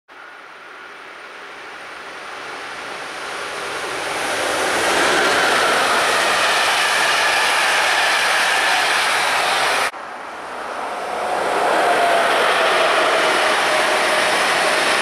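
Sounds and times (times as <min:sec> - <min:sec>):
train wheels rushing on rails: 0:00.6 - 0:15.0.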